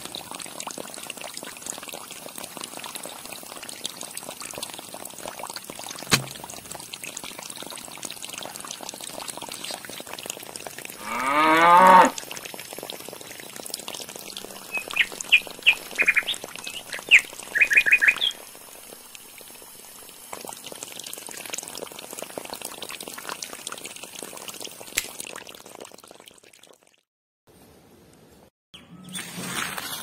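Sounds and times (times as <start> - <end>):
water trickling from a hose: 0.0 - 27.1, 29.1 - 30.0.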